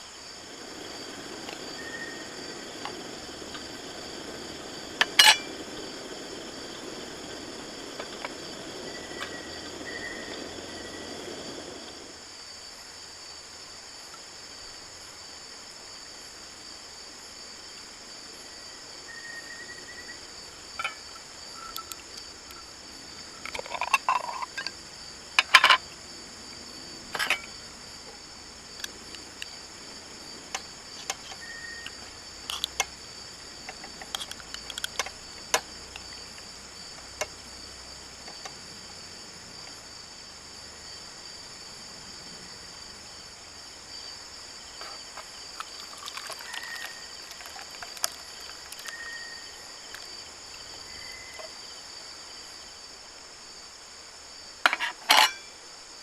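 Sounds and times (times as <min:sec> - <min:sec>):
crickets and insects chirring: 0:00.0 - 0:56.0
low steady hiss: 0:00.0 - 0:56.0.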